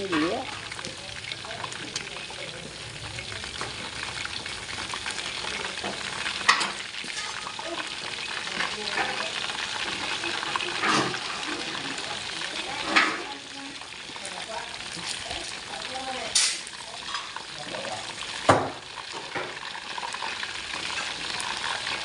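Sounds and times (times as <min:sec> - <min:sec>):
chicken wings sizzling in oil: 0:00.0 - 0:22.0.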